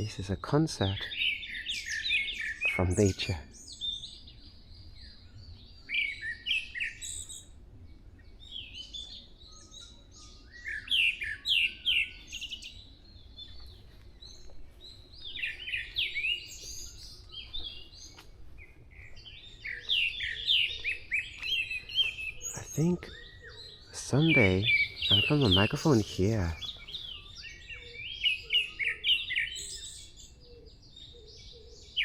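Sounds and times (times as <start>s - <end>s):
songbirds singing: 0.0s - 32.0s.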